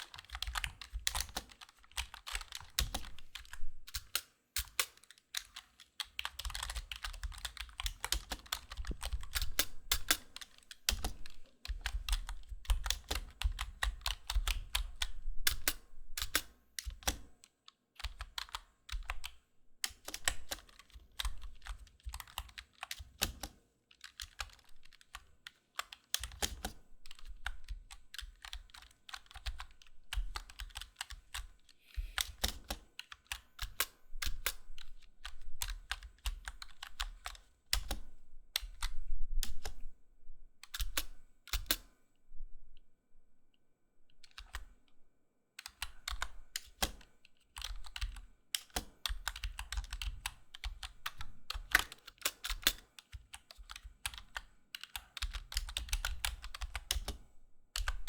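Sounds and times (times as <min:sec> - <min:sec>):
keyboard typing: 0:00.0 - 0:17.3, 0:18.0 - 0:39.8, 0:45.6 - 0:57.2, 0:57.8 - 0:58.0.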